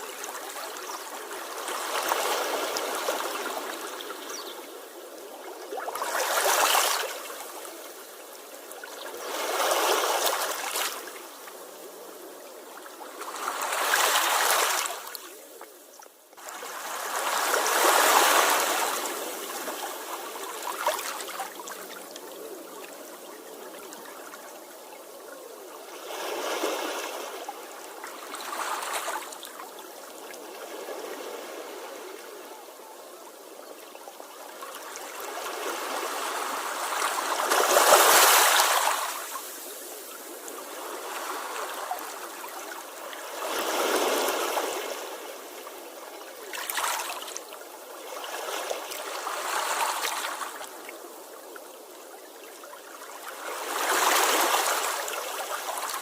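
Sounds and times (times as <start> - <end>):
sea waves washing onto shore: 0.0 - 56.0.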